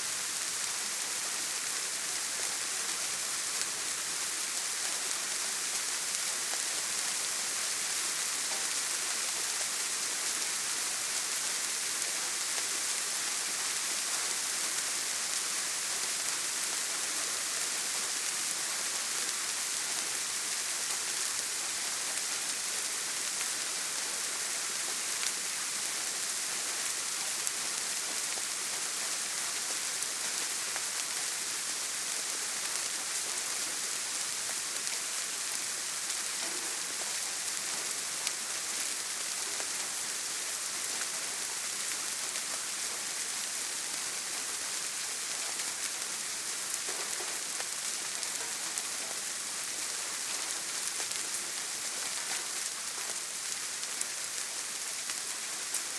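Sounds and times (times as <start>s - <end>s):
rain on a tin roof: 0.0s - 55.9s.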